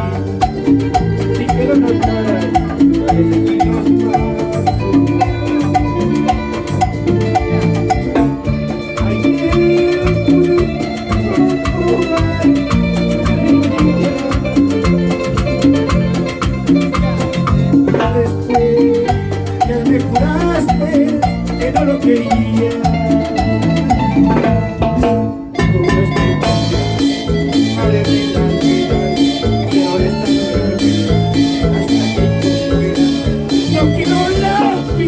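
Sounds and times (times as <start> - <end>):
latin dance band playing: 0.0 - 35.0.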